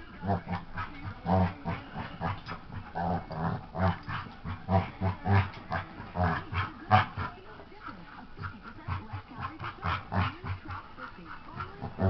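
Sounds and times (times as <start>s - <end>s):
dogs play growling: 0.0s - 12.0s.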